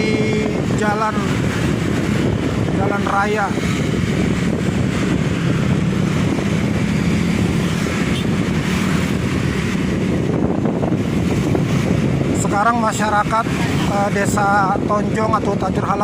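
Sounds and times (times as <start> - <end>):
vehicle engine droning: 0.0 - 16.0
wind rushing over microphone: 0.0 - 16.0.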